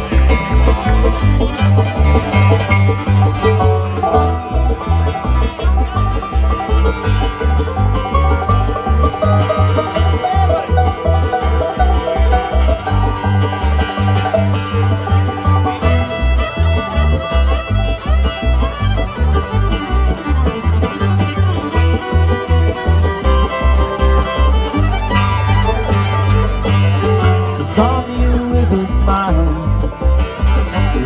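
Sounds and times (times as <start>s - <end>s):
banjo playing: 0.0s - 31.0s
bass notes: 0.0s - 31.0s
guitar: 0.0s - 31.0s.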